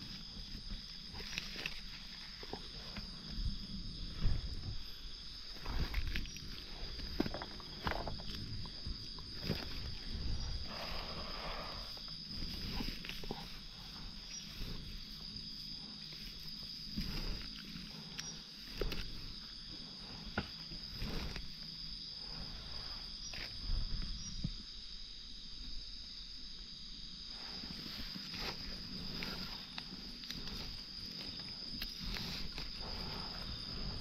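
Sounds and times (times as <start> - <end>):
rustling: 0.0 - 23.8, 27.3 - 34.0
high-pitched insect drone: 0.0 - 34.0.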